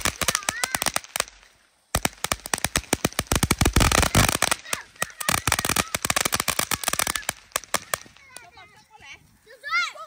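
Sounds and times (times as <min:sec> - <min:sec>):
firecrackers cracking: 0:00.0 - 0:09.1.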